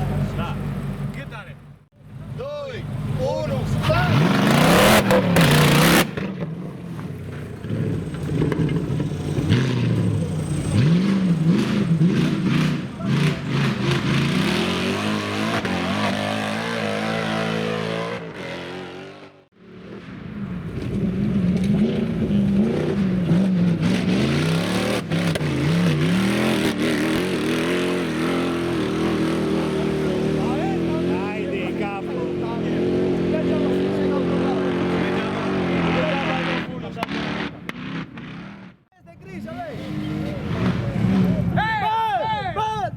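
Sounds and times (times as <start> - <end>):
off-road engine revving: 0.0 - 41.8.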